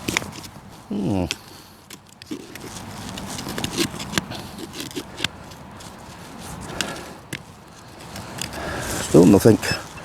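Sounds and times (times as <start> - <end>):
spade scraping through earth: 0.0 - 10.0.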